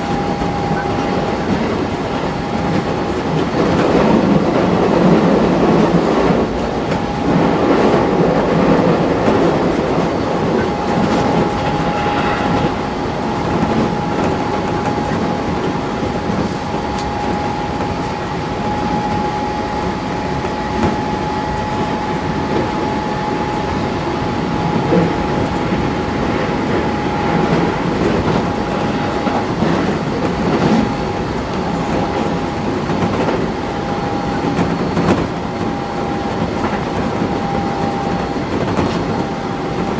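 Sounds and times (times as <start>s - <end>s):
train wheels rumbling on track: 0.0s - 39.9s
high steady whine: 6.4s - 38.5s.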